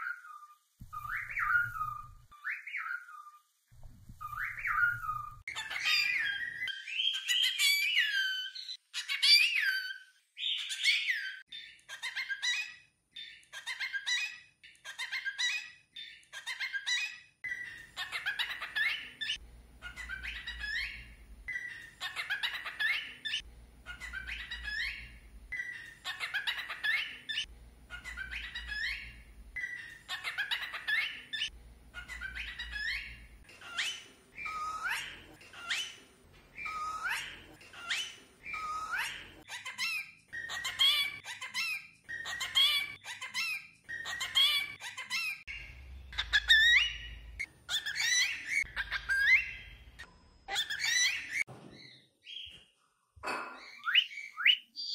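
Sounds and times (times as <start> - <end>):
cockatiel calling and whistling: 0.0 - 3.4, 4.1 - 52.6, 53.6 - 54.9.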